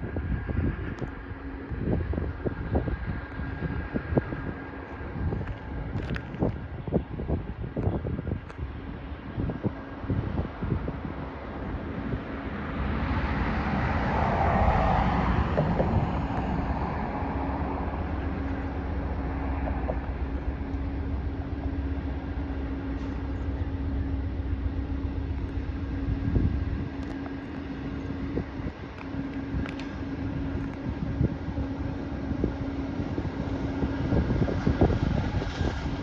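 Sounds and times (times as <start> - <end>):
diesel locomotive rumbling: 0.0 - 36.0.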